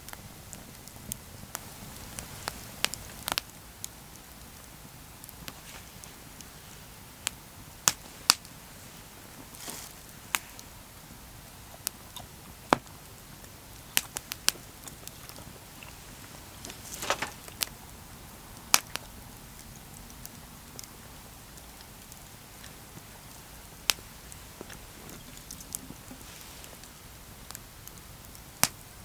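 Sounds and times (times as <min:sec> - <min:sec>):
campfire crackling and popping: 0:00.0 - 0:29.0
fire hissing flare-ups: 0:00.0 - 0:29.0.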